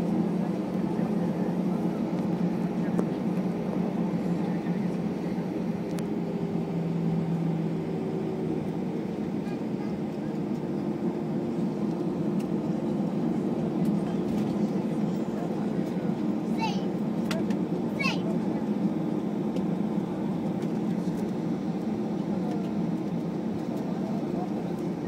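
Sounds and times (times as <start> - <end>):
aircraft engines humming: 0.0 - 25.0.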